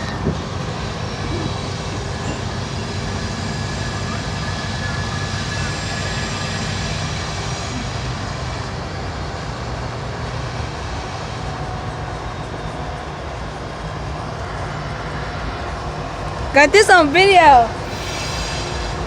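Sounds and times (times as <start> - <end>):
freight train passing: 0.0 - 19.0.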